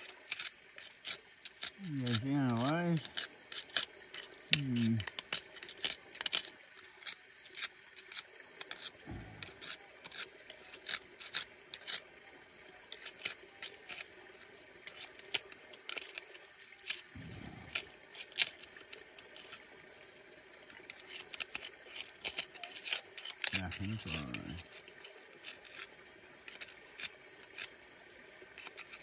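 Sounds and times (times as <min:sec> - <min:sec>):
steel pick scraping rock: 0:00.0 - 0:29.0.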